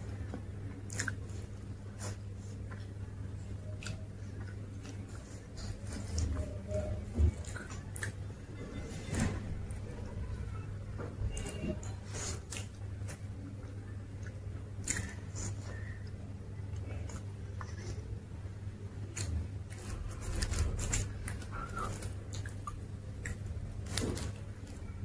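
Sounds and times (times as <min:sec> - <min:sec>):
chewing and crunching: 0:00.0 - 0:10.0, 0:11.2 - 0:25.0
steady low hum: 0:00.0 - 0:25.0.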